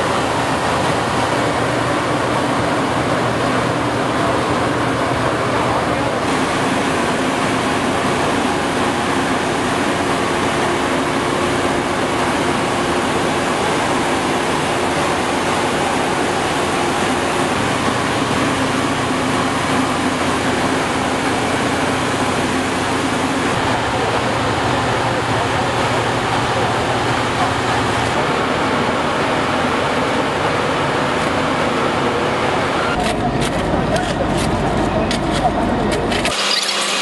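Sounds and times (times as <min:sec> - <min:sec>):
road machine engine drone: 0:00.0 - 0:37.0.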